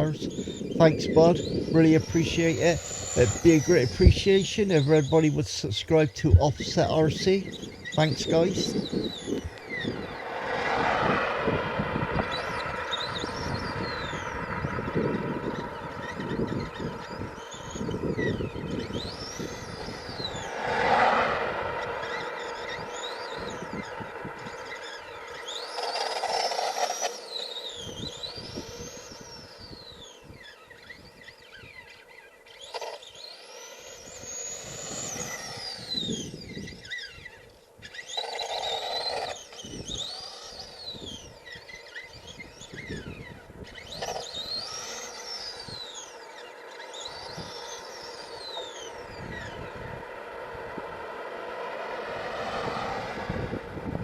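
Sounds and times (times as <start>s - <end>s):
electric motor whining: 0.0s - 51.2s.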